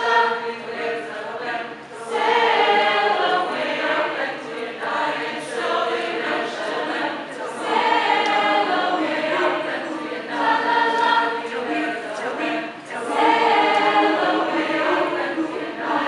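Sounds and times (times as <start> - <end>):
choir singing a cappella: 0.0 - 16.0.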